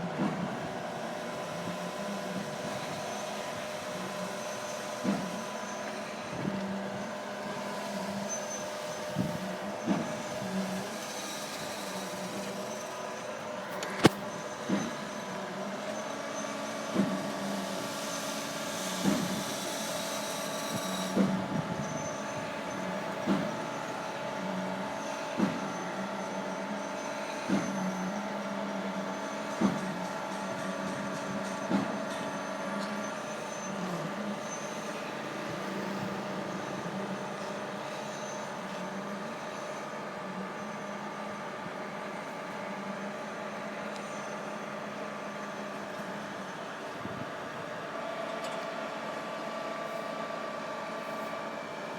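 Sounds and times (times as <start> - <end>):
concrete pump humming: 0.0 - 51.9.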